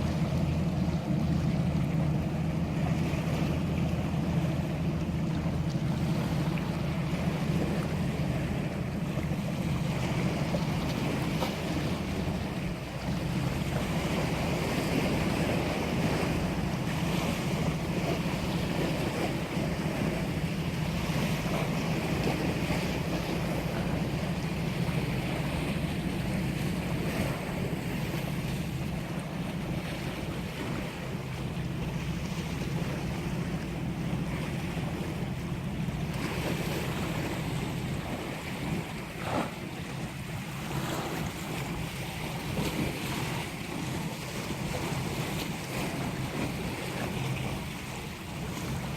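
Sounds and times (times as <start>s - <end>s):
sea waves washing: 0.0s - 48.9s.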